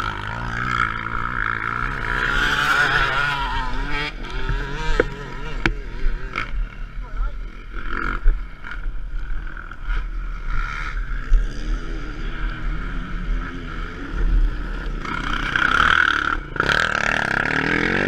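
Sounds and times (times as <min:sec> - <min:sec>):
motocross bike engine running: 0:00.0 - 0:18.0.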